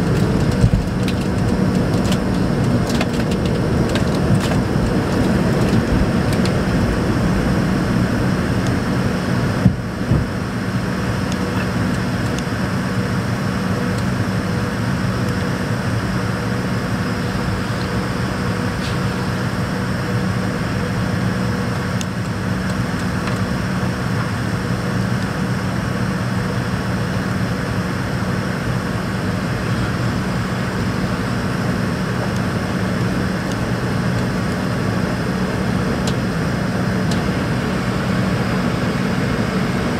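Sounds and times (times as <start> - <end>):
jet engine drone: 0.0 - 39.9
low hum: 0.0 - 39.9.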